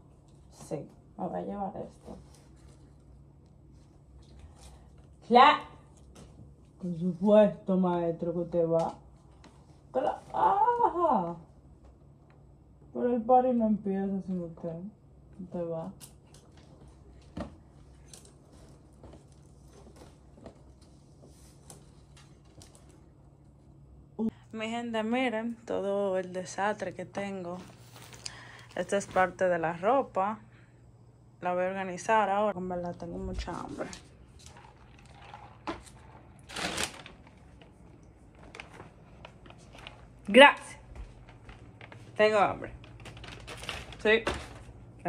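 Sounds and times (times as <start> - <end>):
clothes and objects rustling: 0.0 - 12.2, 15.4 - 23.8, 25.9 - 30.0, 32.8 - 45.0.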